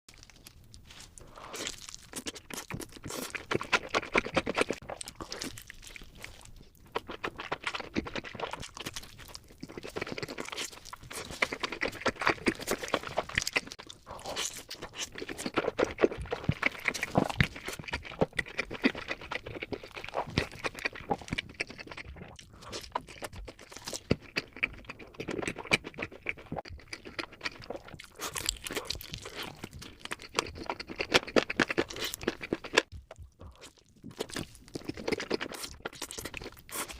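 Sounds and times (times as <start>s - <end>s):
crunchy chewing of pizza: 0.1s - 36.9s.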